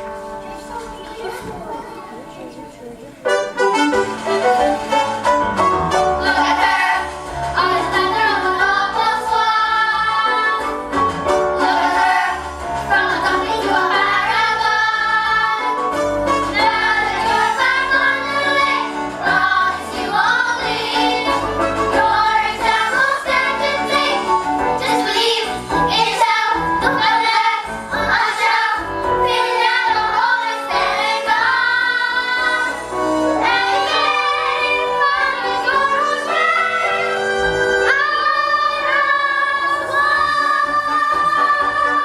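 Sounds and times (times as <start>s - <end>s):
instrumental accompaniment: 0.0s - 42.0s
young cast singing together: 6.0s - 42.0s.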